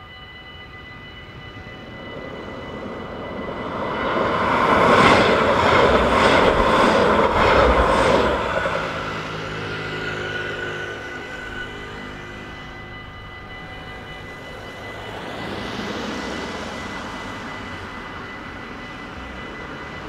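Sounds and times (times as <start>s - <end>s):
crossing warning bell ringing: 0.0s - 20.0s
tram passing: 0.0s - 20.0s.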